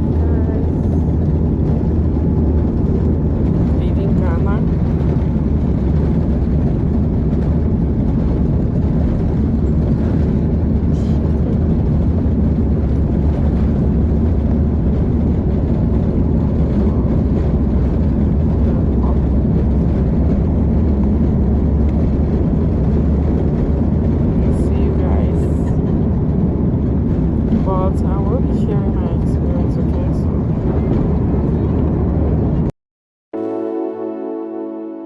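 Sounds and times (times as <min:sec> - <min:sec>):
airliner cabin jet engine rumble: 0:00.0 - 0:32.7.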